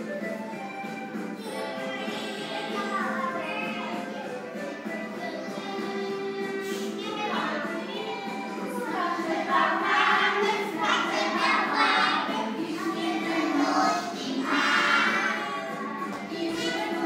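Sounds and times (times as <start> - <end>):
musical accompaniment: 0.0 - 17.0
children singing: 1.4 - 17.0.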